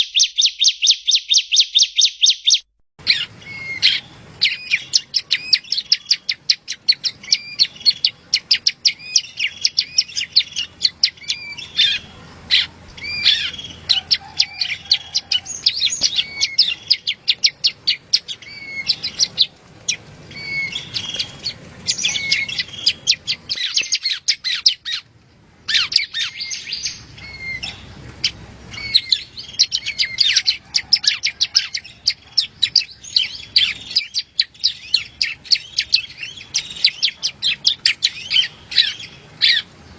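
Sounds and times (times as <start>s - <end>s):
bird singing high chips and trills: 0.0s - 25.1s, 25.7s - 39.9s.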